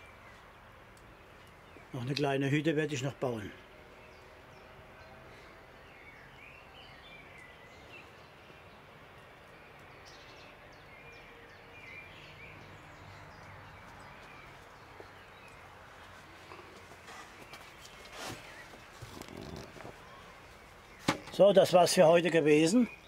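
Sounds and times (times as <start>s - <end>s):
birds chirping and trilling: 0.0s - 23.0s.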